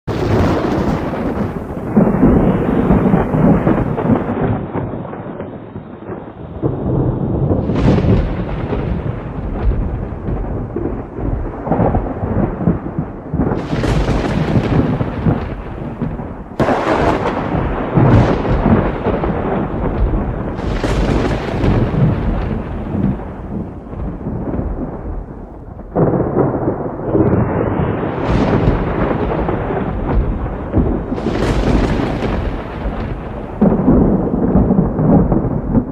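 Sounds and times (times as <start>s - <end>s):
rain: 0.1s - 35.9s
thunder rolling and cracking: 0.1s - 35.9s.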